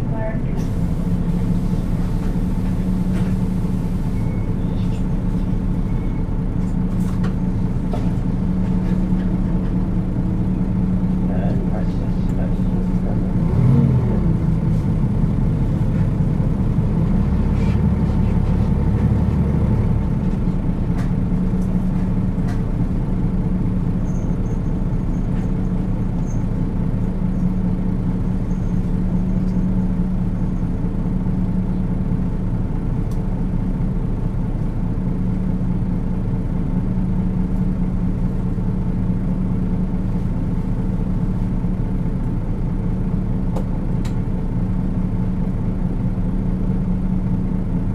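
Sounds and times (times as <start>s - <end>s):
bus diesel engine humming: 0.0s - 47.9s.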